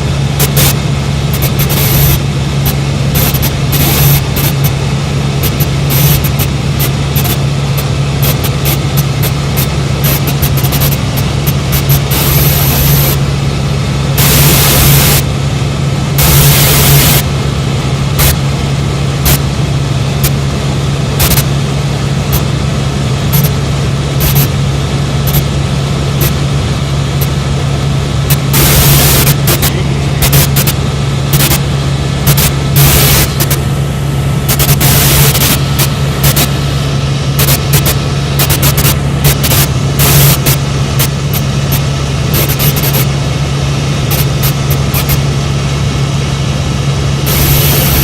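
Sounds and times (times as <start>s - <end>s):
helicopter rotor and turbine drone: 0.0s - 48.0s.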